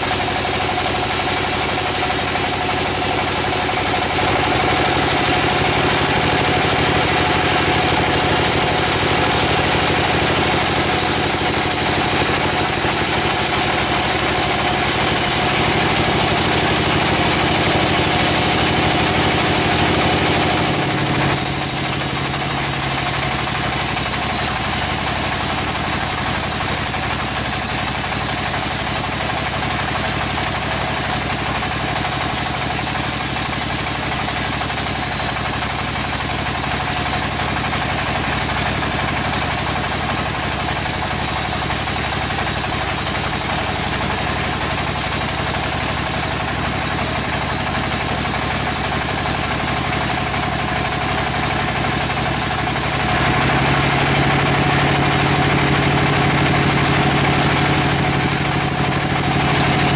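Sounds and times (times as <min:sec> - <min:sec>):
saw hissing: 0:00.0 - 0:04.6, 0:05.4 - 0:16.1, 0:21.0 - 0:53.2, 0:56.6 - 0:59.9
sawmill machine drone: 0:00.0 - 0:59.9.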